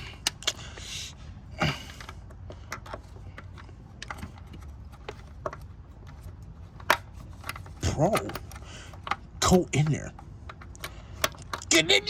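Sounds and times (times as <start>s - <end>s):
metal parts and tools clicking: 1.8s - 12.0s.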